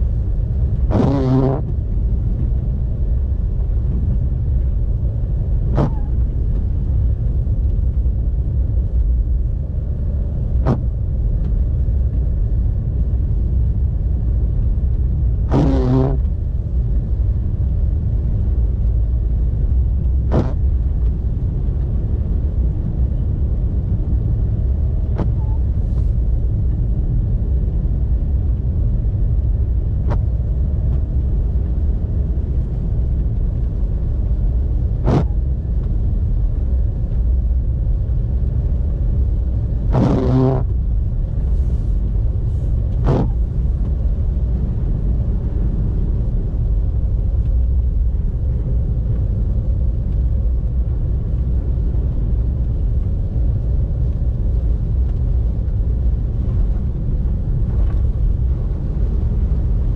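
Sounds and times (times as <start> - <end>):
car tyres and engine rumbling: 0.0 - 59.9.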